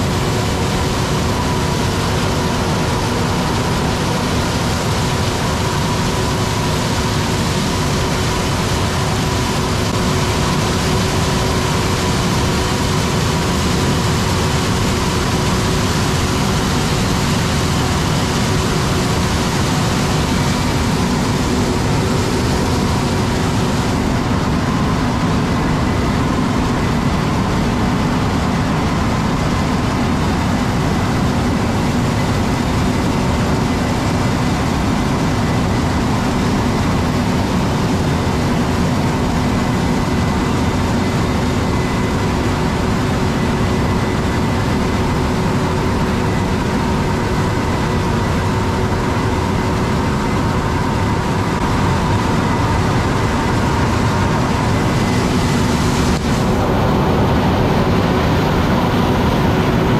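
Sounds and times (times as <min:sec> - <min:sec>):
diesel farm machinery droning: 0:00.0 - 0:59.9.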